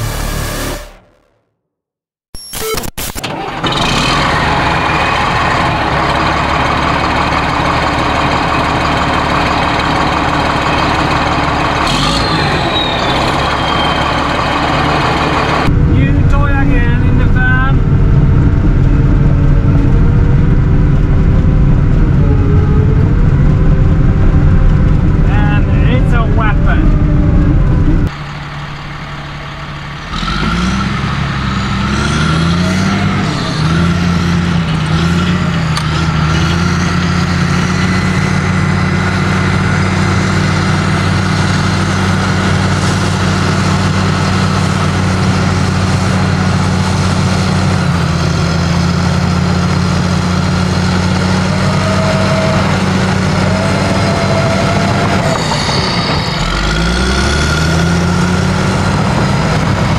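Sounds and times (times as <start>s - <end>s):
bulldozer diesel engine under load: 3.3s - 59.9s.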